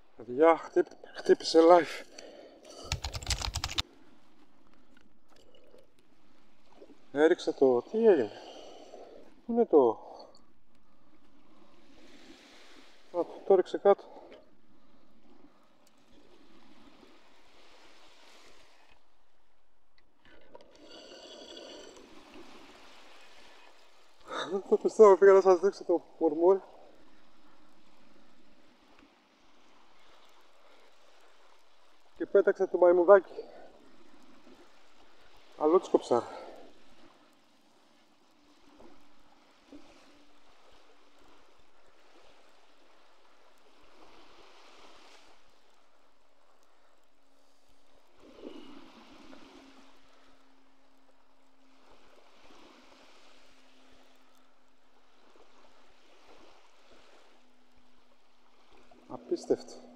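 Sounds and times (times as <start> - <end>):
sea water lapping at shore: 0.0 - 59.9.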